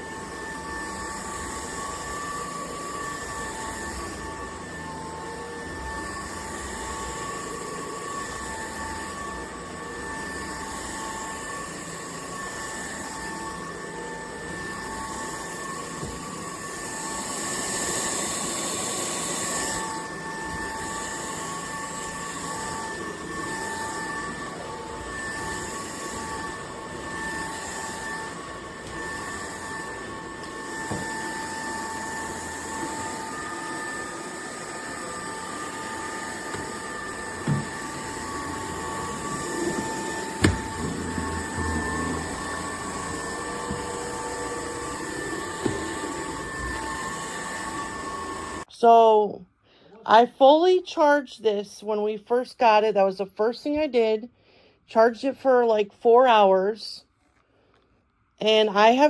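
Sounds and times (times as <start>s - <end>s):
stick vacuum running: 0.0s - 48.7s.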